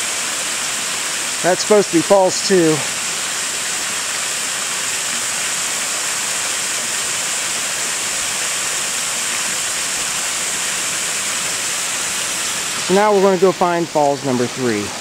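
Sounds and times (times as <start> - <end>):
waterfall pouring into pool: 0.0 - 15.0.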